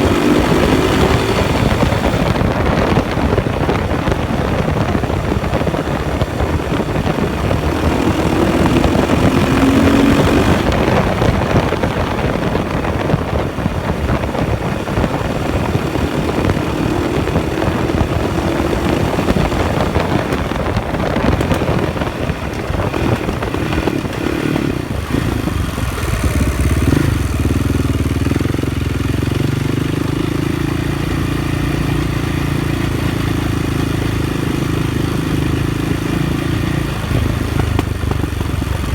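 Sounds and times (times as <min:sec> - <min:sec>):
motorcycle engine accelerating: 0:00.0 - 0:38.9
wind on microphone: 0:00.0 - 0:38.9.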